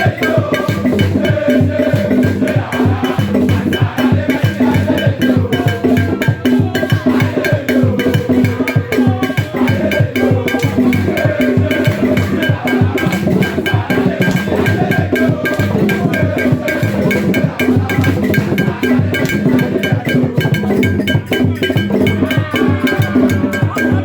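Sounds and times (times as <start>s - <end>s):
loud music with drums and bass: 0.0s - 24.0s.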